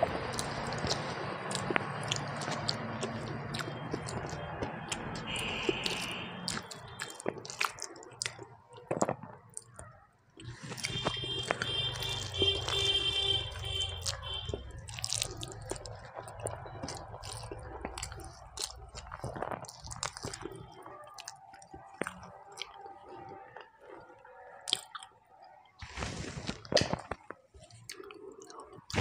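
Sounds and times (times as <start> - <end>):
person chewing with lip smacks: 0.0 - 24.0, 24.6 - 25.1, 26.7 - 28.9.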